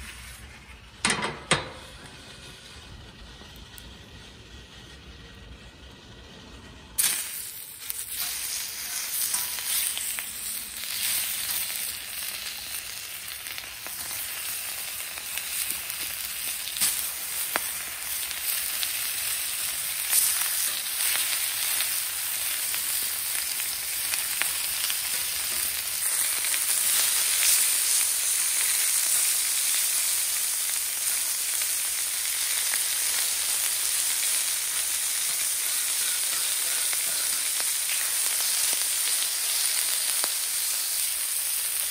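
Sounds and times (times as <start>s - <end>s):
meat sizzling in oil: 7.0s - 41.9s.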